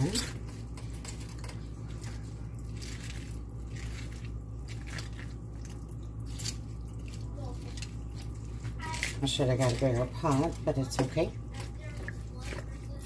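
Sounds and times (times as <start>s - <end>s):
spoon stirring wet cabbage: 0.0s - 13.0s.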